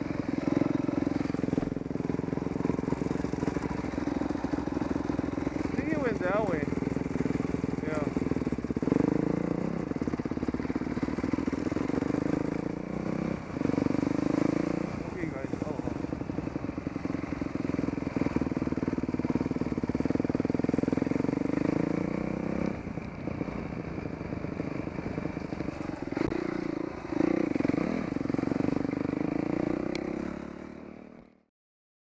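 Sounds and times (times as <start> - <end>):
dirt bike engine running: 0.0 - 31.4.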